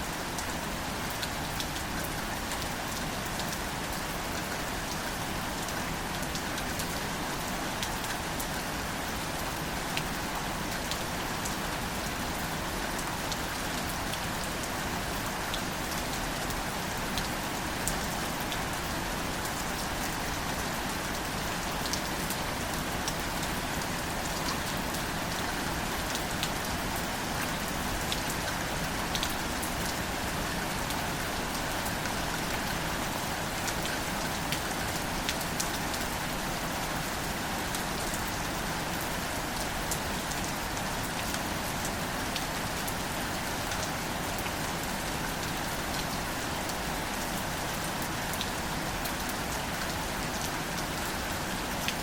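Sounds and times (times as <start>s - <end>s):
rain falling on leaves: 0.0s - 52.0s.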